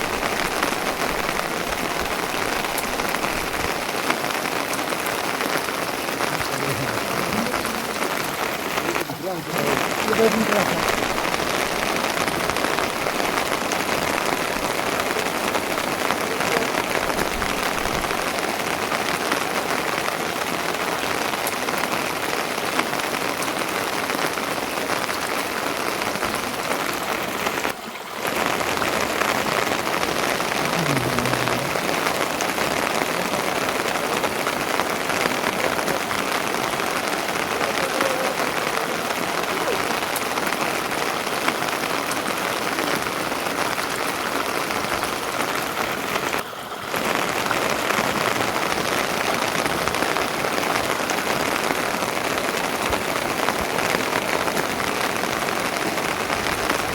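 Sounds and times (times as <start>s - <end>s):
rain pattering: 0.0s - 56.9s.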